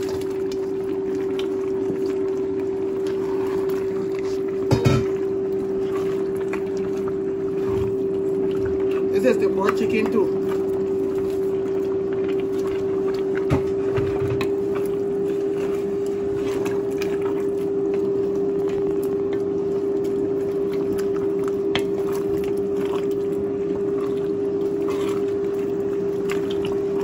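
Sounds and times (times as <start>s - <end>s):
pot simmering: 0.0s - 27.0s
steady hum: 0.0s - 27.0s.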